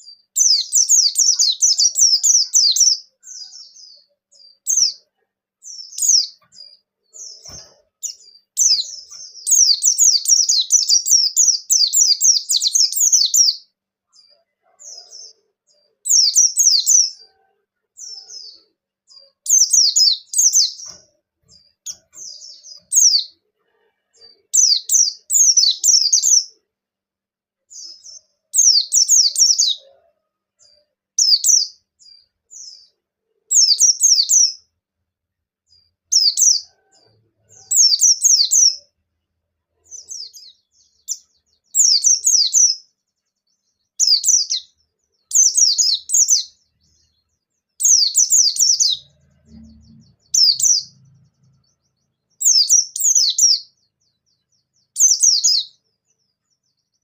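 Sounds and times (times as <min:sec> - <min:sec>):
bird high twittering song: 0:00.0 - 0:17.3, 0:18.0 - 0:23.4, 0:24.1 - 0:26.7, 0:27.7 - 0:30.0, 0:30.6 - 0:34.8, 0:35.7 - 0:39.0, 0:39.8 - 0:57.0.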